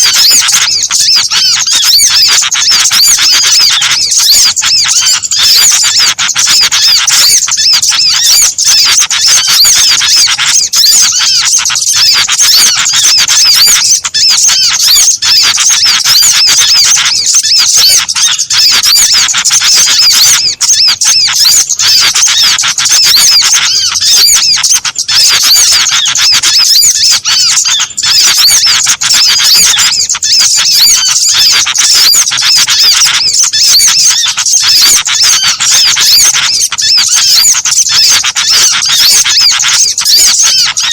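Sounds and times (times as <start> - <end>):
many songbirds chirping: 0.0 - 40.9.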